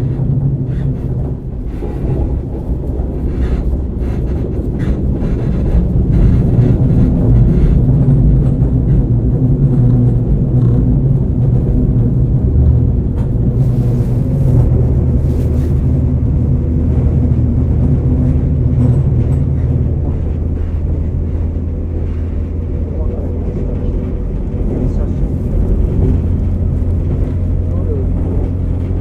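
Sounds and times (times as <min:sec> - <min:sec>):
diesel engine drone: 0:00.0 - 0:29.0
train rumbling on rails: 0:00.0 - 0:29.0.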